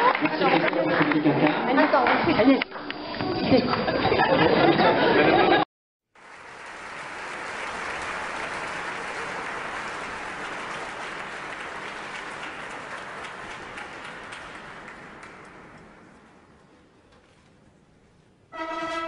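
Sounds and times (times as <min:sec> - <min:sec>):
crowd applause: 0:00.0 - 0:05.6, 0:06.2 - 0:16.8.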